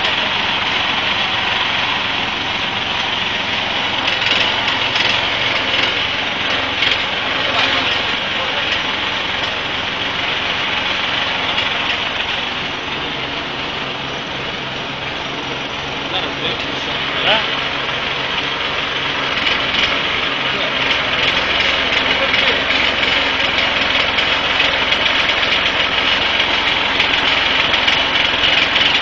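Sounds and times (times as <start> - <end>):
street noise hiss: 0.0 - 29.0
vehicle engine idling: 0.0 - 29.0.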